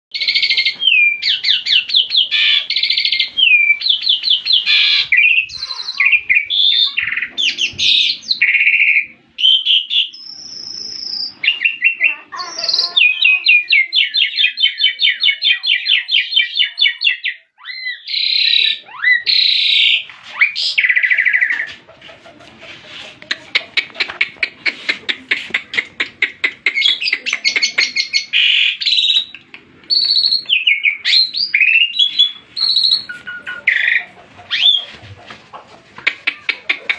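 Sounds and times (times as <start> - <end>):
songbird singing trills: 0.1 - 22.4, 26.6 - 35.0.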